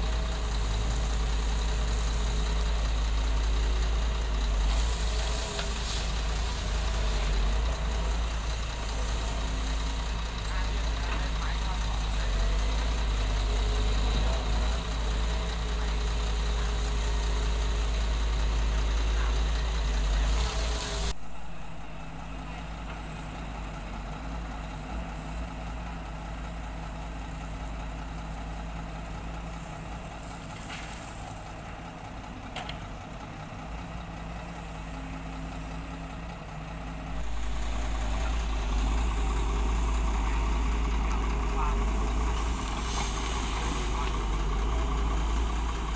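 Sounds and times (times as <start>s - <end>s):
diesel excavator engine running: 0.0s - 45.9s.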